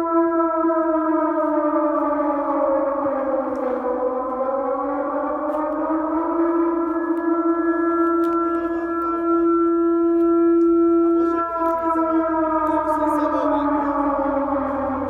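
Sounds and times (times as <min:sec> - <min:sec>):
air-raid siren wailing: 0:00.0 - 0:15.0.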